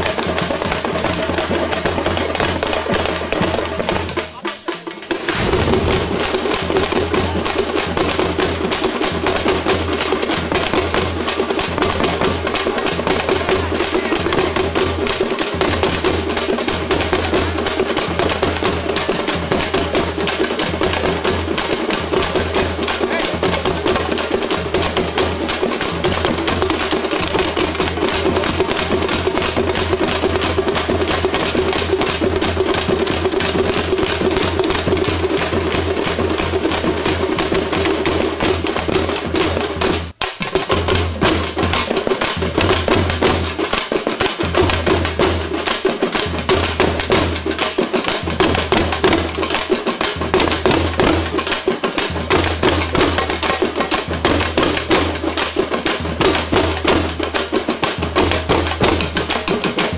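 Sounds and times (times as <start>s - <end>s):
fast frame and barrel drumming: 0.0s - 59.9s.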